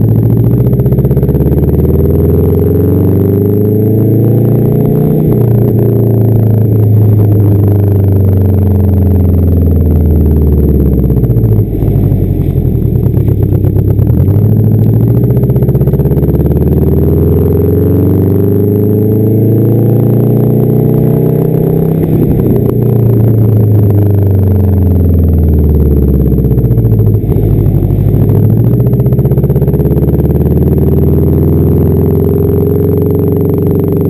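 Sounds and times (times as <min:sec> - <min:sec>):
loud car engine exhaust: 0:00.0 - 0:34.0.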